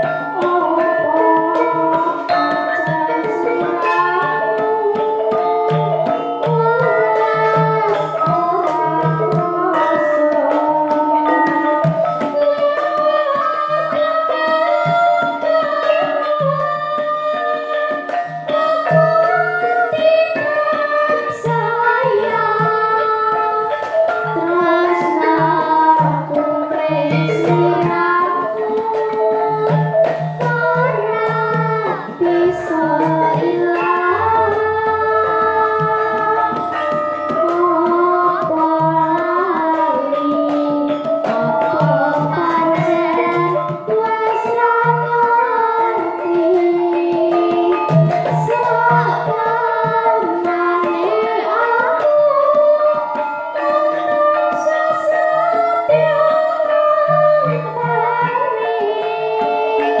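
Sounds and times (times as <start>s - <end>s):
girl singing into a microphone: 0.0s - 60.0s
hand-drum strokes: 0.0s - 60.0s.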